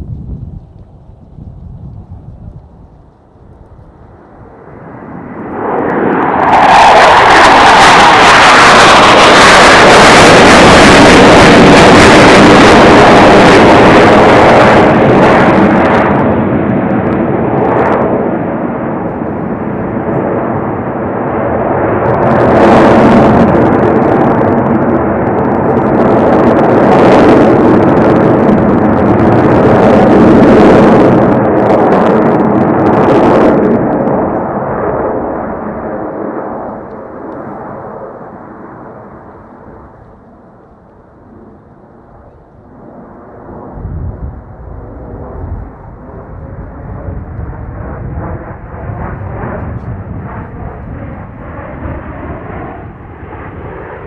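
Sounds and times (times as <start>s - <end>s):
jet engines flying past: 0.0s - 54.0s.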